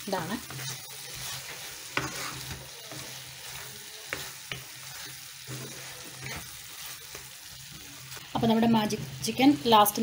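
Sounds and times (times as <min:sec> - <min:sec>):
chicken sizzling in oil: 0:00.0 - 0:10.0
wooden spatula stirring: 0:00.1 - 0:08.3.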